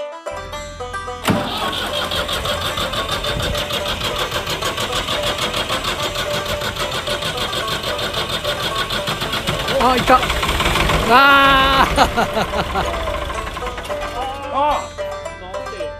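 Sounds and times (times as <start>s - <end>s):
tractor engine turning over: 0.2s - 15.4s.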